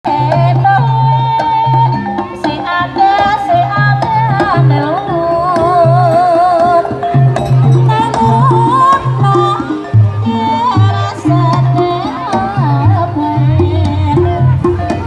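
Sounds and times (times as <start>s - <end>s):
high wavering melody: 0.1s - 15.0s
low hand drum beats: 0.1s - 15.0s.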